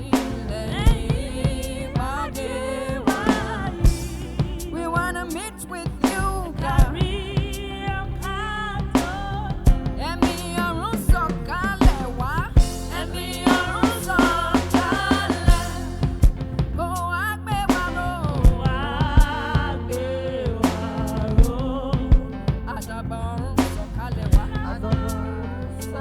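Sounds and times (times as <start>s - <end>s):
gospel band with drum kit: 0.0s - 26.0s
person singing wordless vocal runs: 0.0s - 26.0s.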